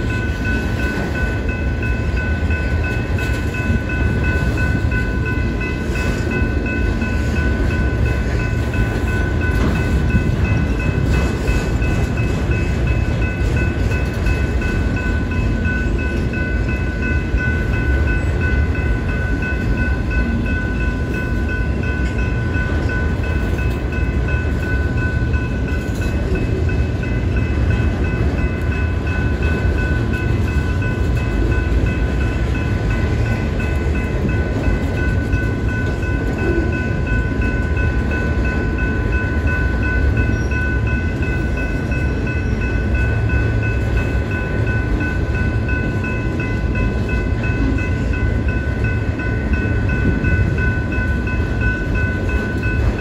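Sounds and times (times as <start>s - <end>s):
steady high ringing: 0.0s - 53.0s
train wheels rumbling on rails: 0.0s - 53.0s.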